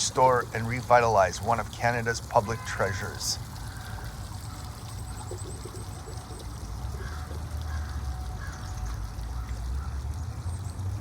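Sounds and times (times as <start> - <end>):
water fountain splashing: 0.0 - 11.0.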